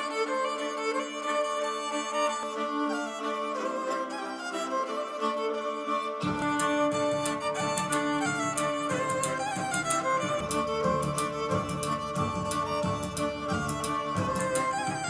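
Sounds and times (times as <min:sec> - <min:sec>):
violin-led music with percussion: 0:00.0 - 0:15.0.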